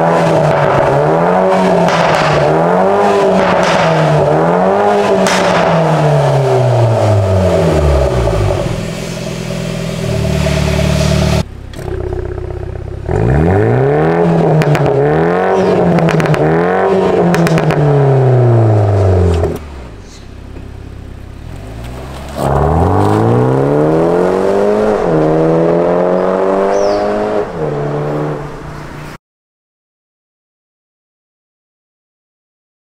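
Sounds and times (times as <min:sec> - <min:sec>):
car accelerating hard with gear changes: 0:00.0 - 0:29.0
car engine revving: 0:00.0 - 0:29.1.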